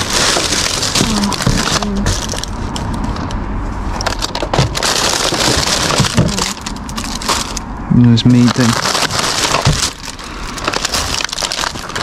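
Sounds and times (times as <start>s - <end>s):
plastic bags rustling and crackling: 0.0s - 12.0s.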